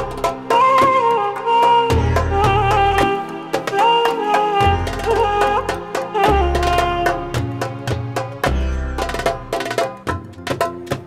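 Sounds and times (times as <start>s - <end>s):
belly-dance music: 0.0s - 11.0s
hand drum strikes: 1.9s - 11.0s.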